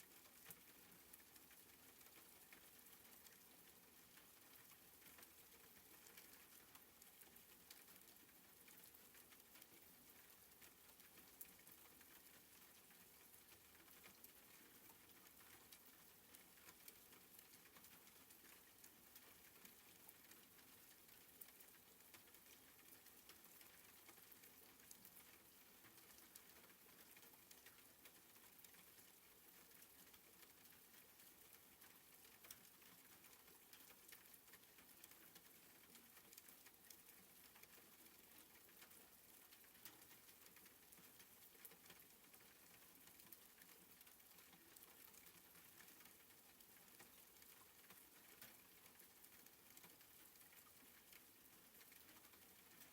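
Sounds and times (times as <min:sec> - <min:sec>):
raindrops ticking: 0:00.0 - 0:52.9
soft rain hiss: 0:00.0 - 0:52.9.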